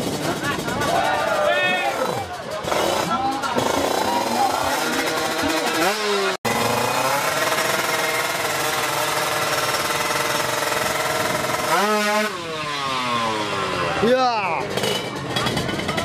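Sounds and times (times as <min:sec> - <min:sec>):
two-stroke engine revving: 0:01.8 - 0:16.0.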